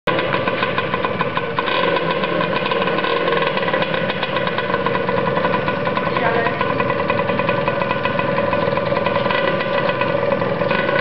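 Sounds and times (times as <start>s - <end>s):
motorcycle engine idling: 0.1s - 11.0s.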